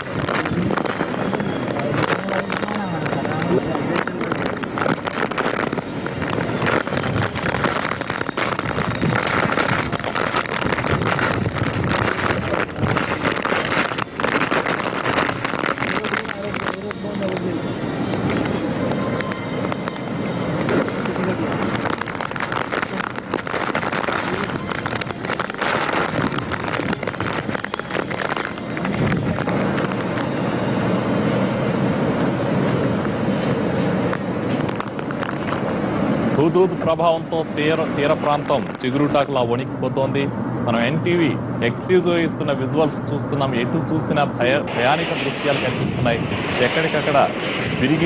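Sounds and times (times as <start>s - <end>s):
heavy rain: 0.0s - 40.7s, 44.6s - 48.0s
wind buffeting microphone: 0.0s - 40.7s, 44.5s - 48.0s
strong wind: 0.0s - 48.0s.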